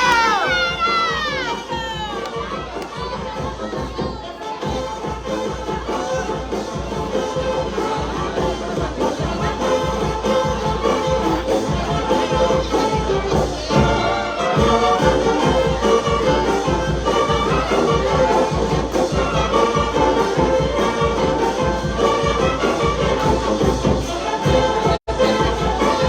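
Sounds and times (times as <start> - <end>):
brass band music: 0.0 - 26.0.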